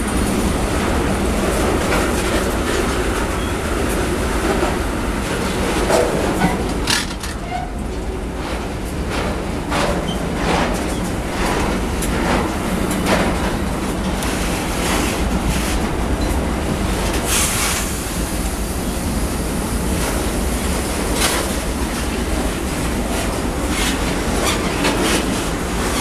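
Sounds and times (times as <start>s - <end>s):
freight train rumbling past: 0.0s - 26.0s
wheels clacking over rail joints: 0.0s - 26.0s.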